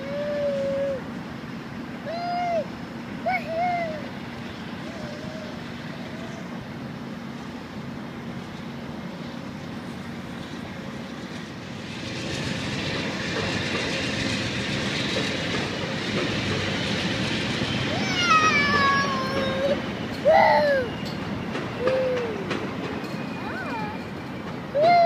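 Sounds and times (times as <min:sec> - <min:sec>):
distant passenger train rumble: 0:00.0 - 0:25.0.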